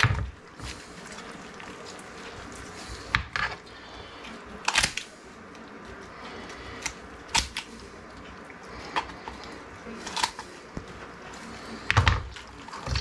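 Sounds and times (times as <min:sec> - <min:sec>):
poultry shears crunching through bone: 0:00.0 - 0:13.0.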